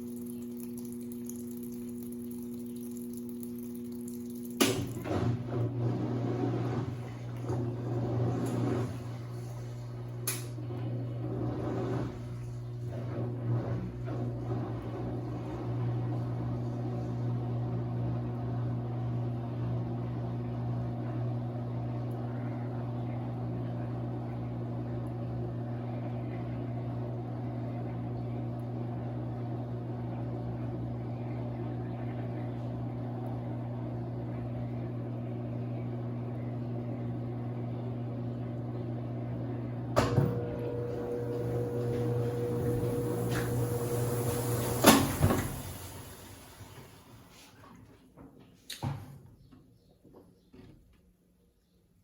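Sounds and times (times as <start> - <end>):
washing machine humming: 0.0 - 49.2.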